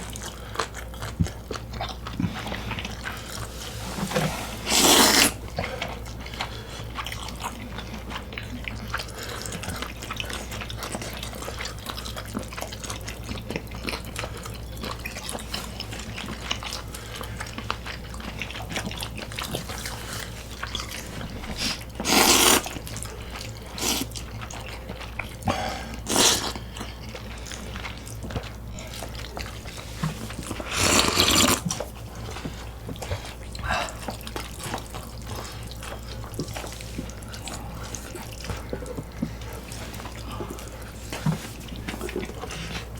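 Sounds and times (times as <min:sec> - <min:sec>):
wet chewing and mouth smacking: 0:00.0 - 0:42.9.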